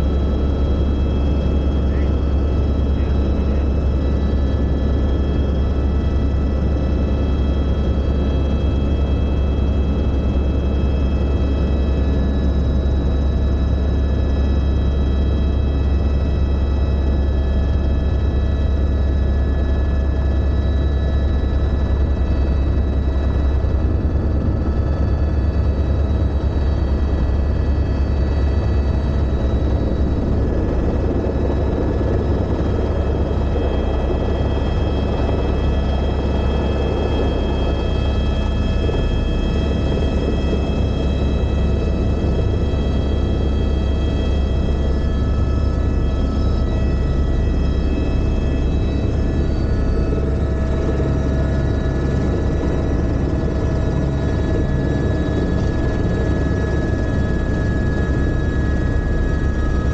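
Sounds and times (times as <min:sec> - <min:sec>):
high engine whine: 0:00.0 - 0:14.9, 0:15.7 - 0:59.9
helicopter rotor drone: 0:00.0 - 0:59.9.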